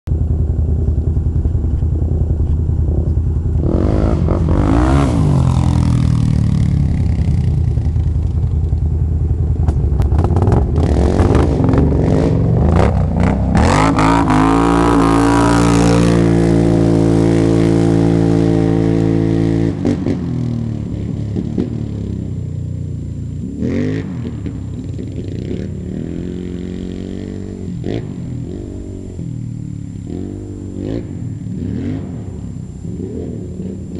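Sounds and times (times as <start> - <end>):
atv engines revving: 0.1 - 33.9.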